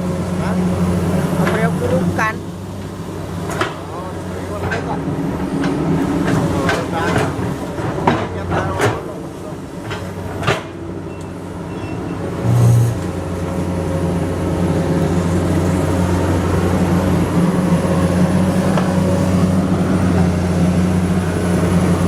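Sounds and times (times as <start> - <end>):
excavator diesel engine drone: 0.0 - 22.0.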